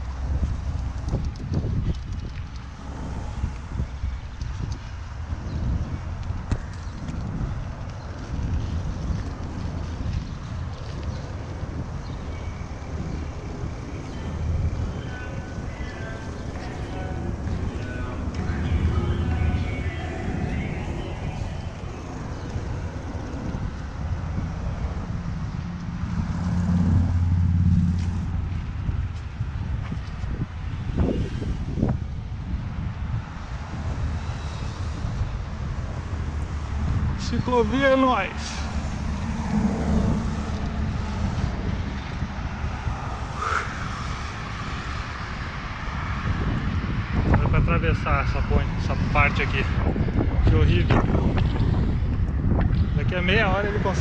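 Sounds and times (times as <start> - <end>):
road noise: 0.0 - 54.0
traffic rumbling past: 0.0 - 54.0
vehicle engine hum: 0.0 - 54.0
wind on microphone: 0.0 - 54.0.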